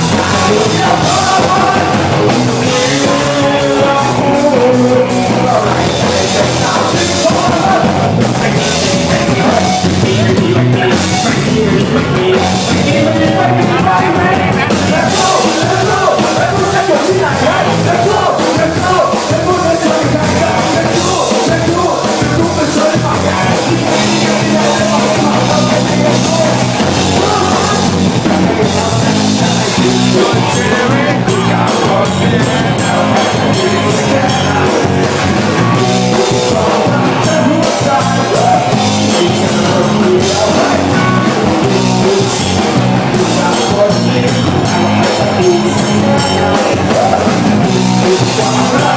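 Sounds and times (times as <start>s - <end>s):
drums: 0.0s - 48.9s
guitar: 0.0s - 48.9s
people singing: 0.0s - 48.9s.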